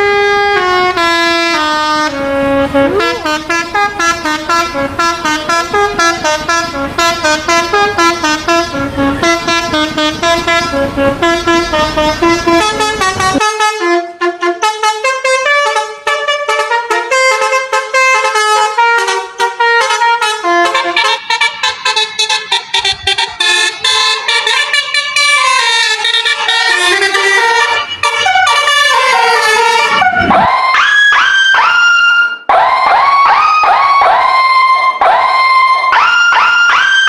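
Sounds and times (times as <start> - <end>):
multi-tone bus horn melody: 0.0 - 37.0.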